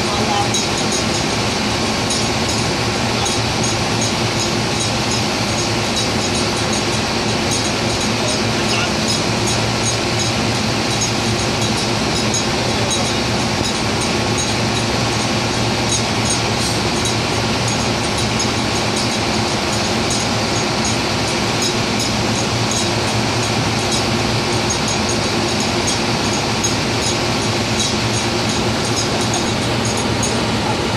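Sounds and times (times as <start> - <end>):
drilling rig machinery drone: 0.0 - 30.9.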